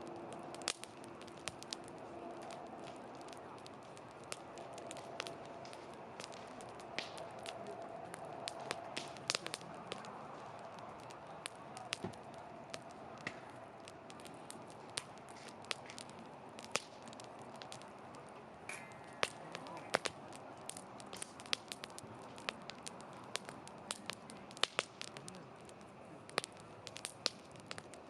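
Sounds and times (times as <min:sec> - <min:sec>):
pops and snaps of fire: 0:00.0 - 0:28.0
wood fire crackling: 0:00.0 - 0:28.0.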